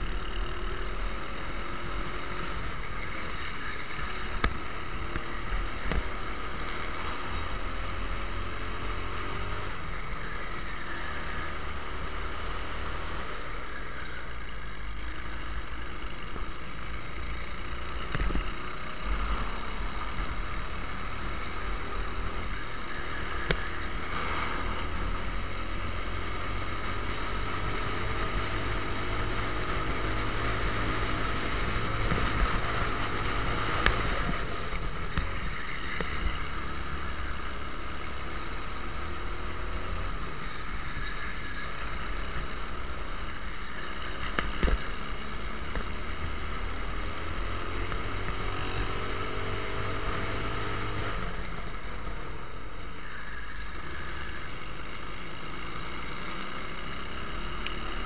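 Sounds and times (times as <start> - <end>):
racing kart engine revving: 0.0 - 58.0.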